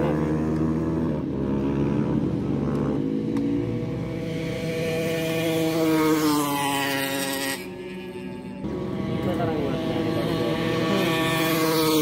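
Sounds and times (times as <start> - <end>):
motorsport engine revving: 0.0 - 12.0.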